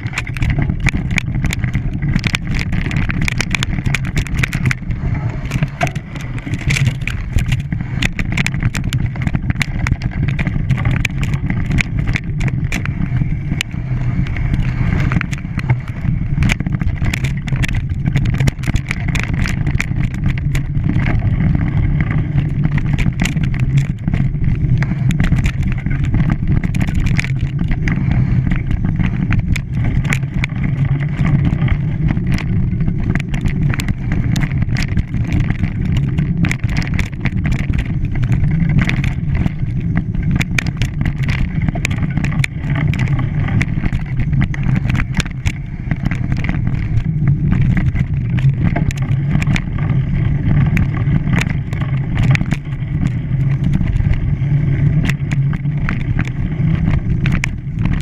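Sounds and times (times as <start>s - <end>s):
sharp clicks and rattles: 0.0s - 58.0s.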